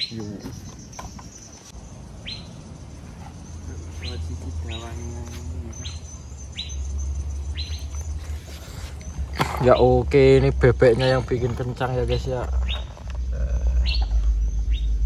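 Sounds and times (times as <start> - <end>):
bird chirping: 0.0 - 15.0
low steady rumble: 1.8 - 15.0.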